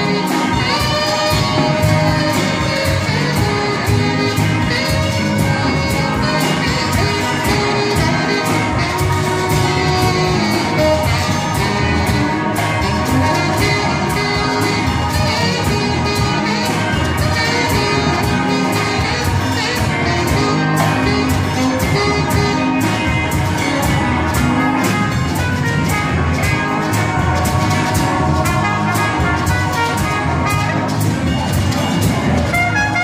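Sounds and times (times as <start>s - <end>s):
live band with horns and drums: 0.0s - 33.0s.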